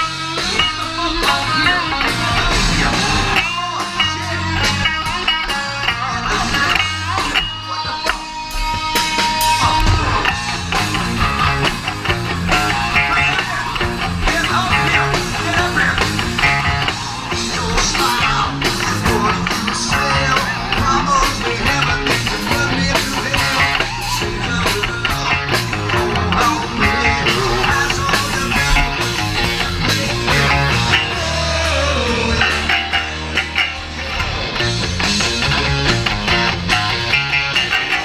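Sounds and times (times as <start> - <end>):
electric guitar: 0.0 - 38.0
live rock band playing: 0.0 - 38.0.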